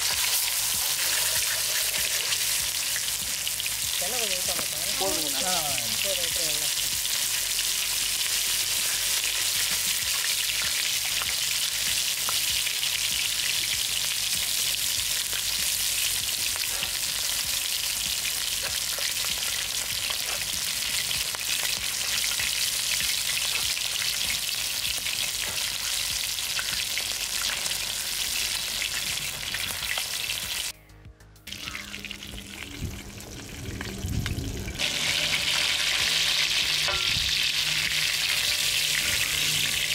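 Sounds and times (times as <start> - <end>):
fish sizzling in oil: 0.0 - 30.7, 31.5 - 39.9.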